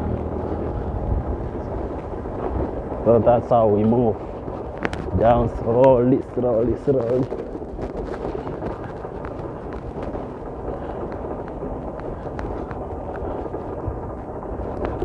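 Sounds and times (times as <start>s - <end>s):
motorcycle engine rumbling: 0.0s - 15.0s
sharp clicks and rattles: 0.0s - 15.0s
wind on microphone: 0.0s - 15.0s.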